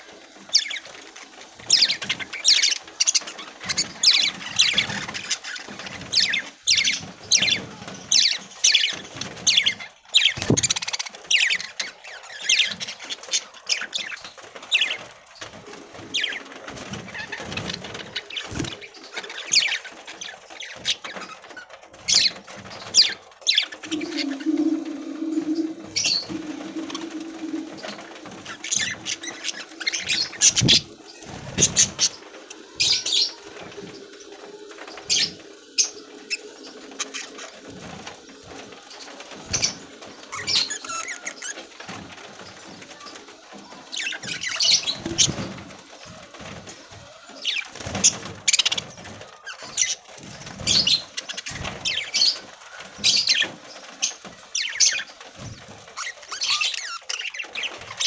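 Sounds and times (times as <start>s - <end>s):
wings flapping: 0.0s - 58.0s
budgies chattering and chirping: 0.4s - 15.1s, 16.1s - 37.8s, 47.3s - 58.0s.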